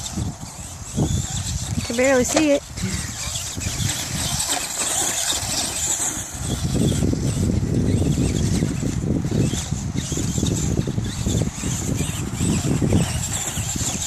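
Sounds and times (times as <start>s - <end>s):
rc truck motor whining: 0.0s - 14.0s.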